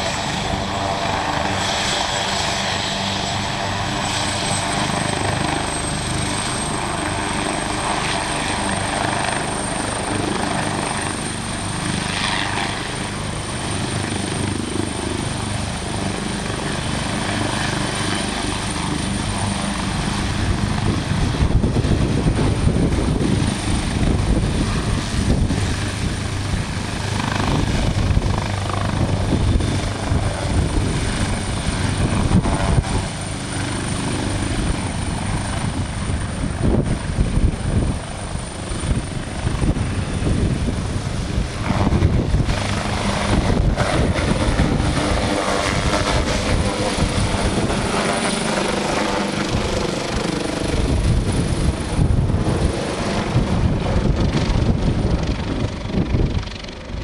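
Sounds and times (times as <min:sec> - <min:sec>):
helicopter rotor and engine: 0:00.0 - 0:57.0
thin high turbine whine: 0:00.0 - 0:57.0.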